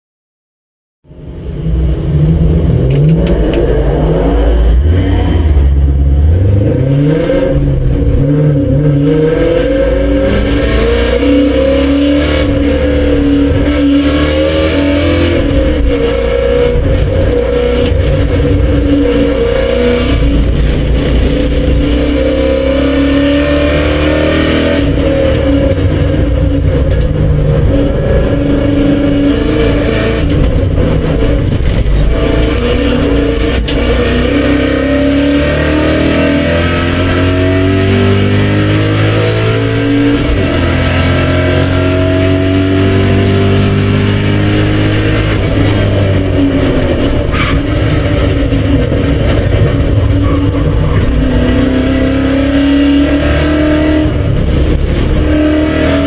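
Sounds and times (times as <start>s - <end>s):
car engine revving: 1.0s - 56.0s.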